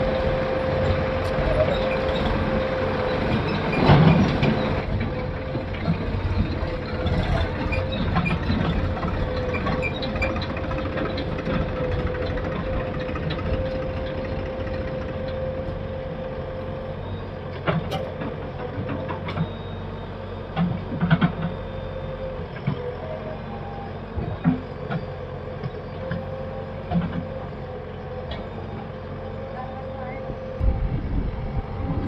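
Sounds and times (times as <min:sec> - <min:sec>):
diesel engine running: 0:00.0 - 0:32.0
engine whine: 0:00.0 - 0:32.0.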